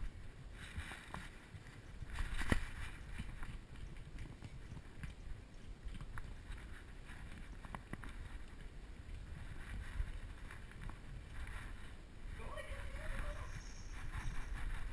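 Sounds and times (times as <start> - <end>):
muffled rubbing and rumbling: 0.0 - 14.9.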